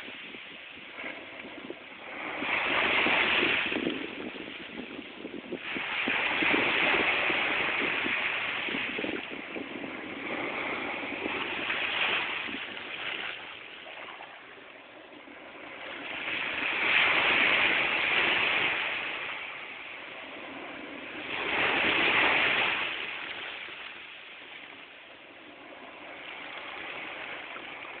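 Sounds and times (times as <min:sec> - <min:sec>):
waves breaking on a beach: 0:00.0 - 0:28.0.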